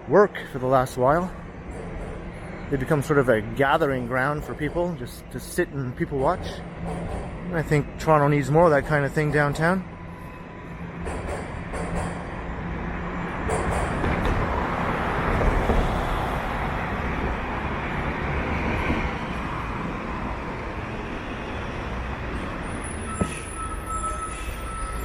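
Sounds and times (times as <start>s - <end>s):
heavy road vehicle passing: 0.0s - 25.0s.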